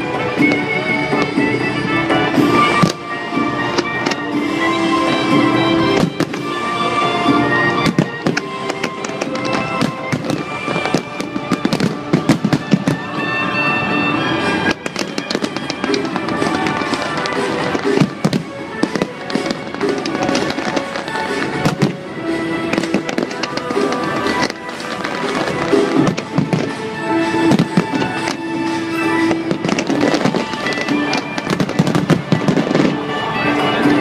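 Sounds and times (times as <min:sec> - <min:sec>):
fireworks bursting: 0:00.0 - 0:34.0
music playing: 0:00.0 - 0:34.0.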